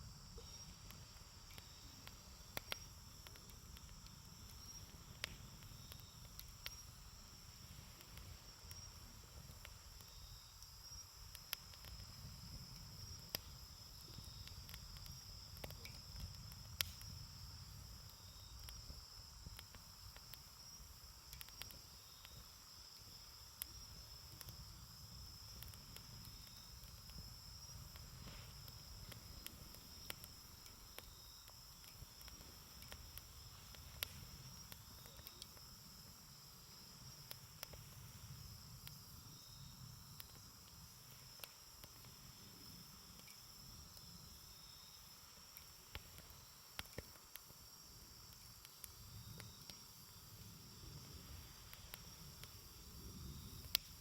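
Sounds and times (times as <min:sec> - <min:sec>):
crickets trilling: 0:00.0 - 0:54.0
wood fire crackling: 0:00.0 - 0:54.0.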